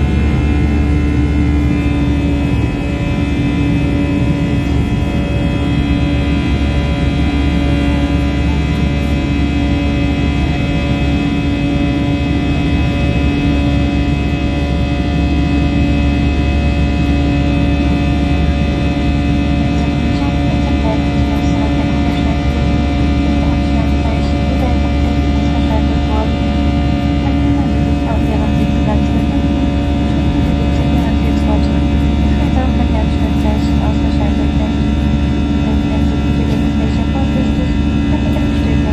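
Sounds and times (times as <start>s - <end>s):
aircraft engine and airflow drone: 0.0s - 38.9s
steady humming tones: 0.0s - 38.9s.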